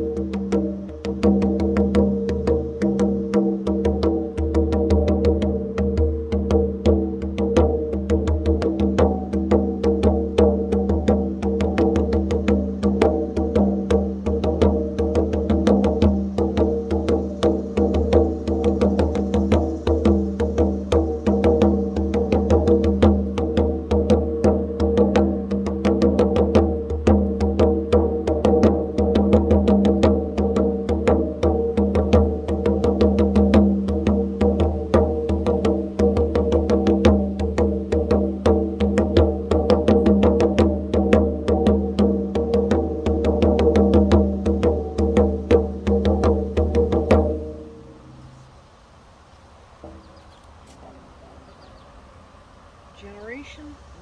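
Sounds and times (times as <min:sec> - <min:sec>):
hand frame drum fast rhythm: 0:00.0 - 0:47.9.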